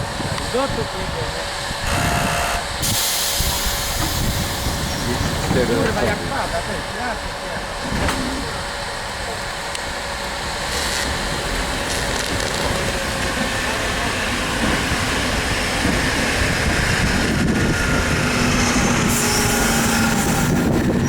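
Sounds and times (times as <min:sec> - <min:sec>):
electric train running on rails: 0:00.0 - 0:21.0.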